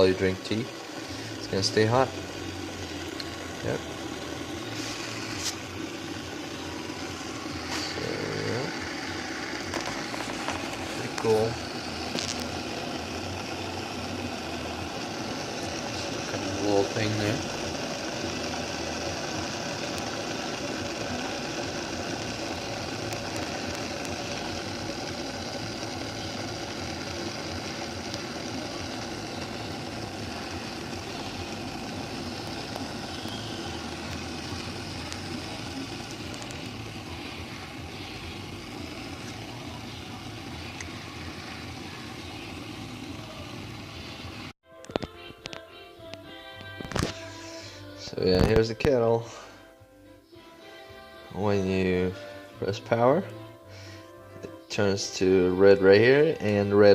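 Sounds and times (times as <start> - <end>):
electric kettle boiling water: 0.0 - 49.6, 50.9 - 56.9.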